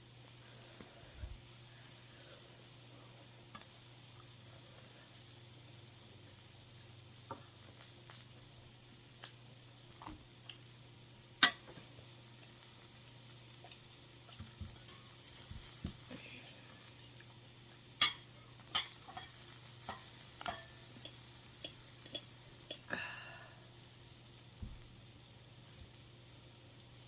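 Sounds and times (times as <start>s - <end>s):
faint steady hum: 0.0s - 27.0s
light sizzle: 0.0s - 27.0s.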